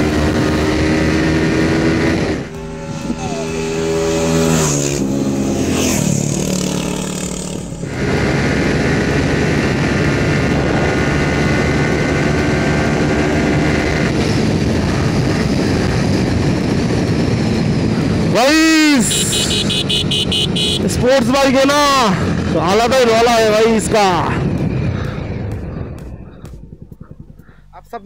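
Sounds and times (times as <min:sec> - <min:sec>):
wind rushing over microphone: 0:00.0 - 0:19.0, 0:20.2 - 0:27.8
motorcycle engine at high revs passing: 0:00.0 - 0:27.6.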